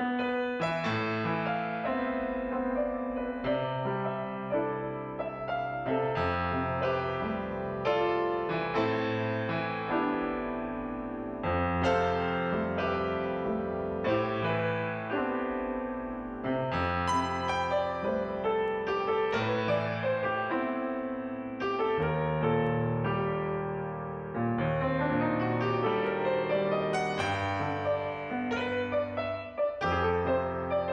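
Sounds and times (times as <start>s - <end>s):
gentle piano music: 0.0s - 30.9s.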